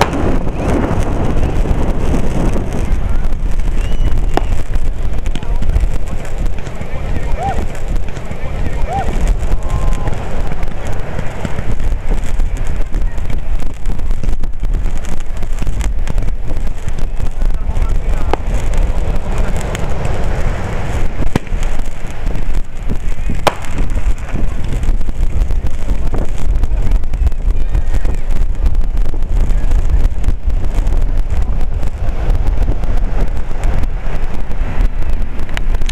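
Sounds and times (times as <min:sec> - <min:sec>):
fireworks bangs: 0:00.0 - 0:35.9
wind buffeting microphone: 0:00.0 - 0:35.9.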